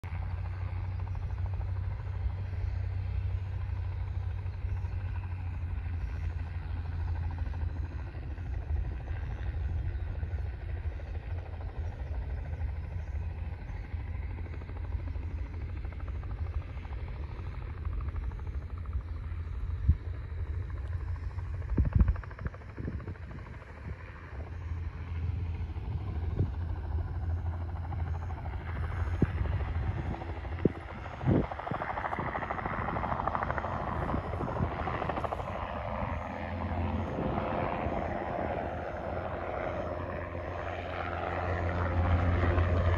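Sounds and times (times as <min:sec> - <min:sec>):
distant helicopter rumble: 0:00.0 - 0:42.9.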